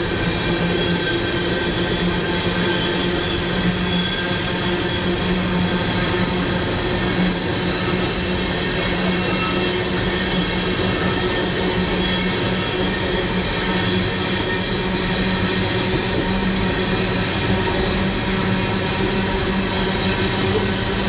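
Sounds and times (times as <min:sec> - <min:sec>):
constant ringing tones: 0:00.0 - 0:21.0
train wheels rumbling on rail: 0:00.0 - 0:21.0.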